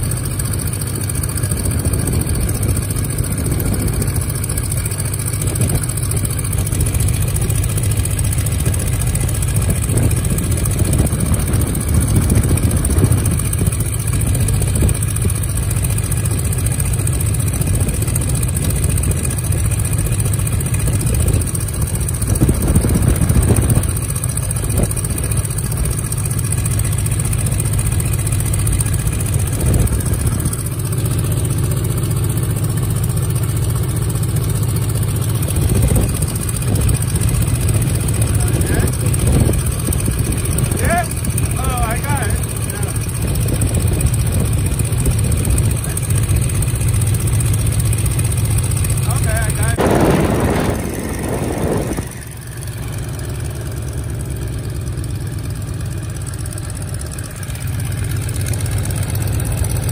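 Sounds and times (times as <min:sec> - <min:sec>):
biplane engine droning: 0:00.0 - 0:59.9.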